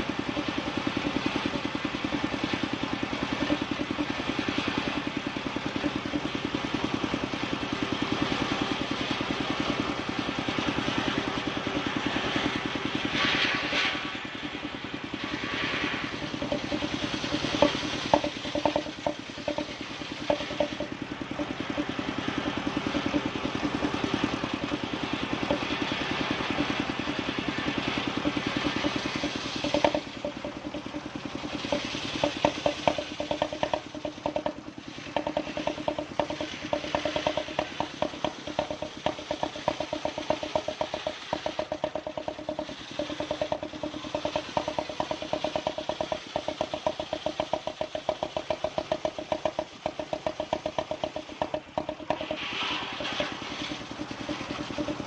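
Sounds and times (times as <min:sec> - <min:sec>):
sawmill engine pulsing: 0:00.0 - 0:55.0.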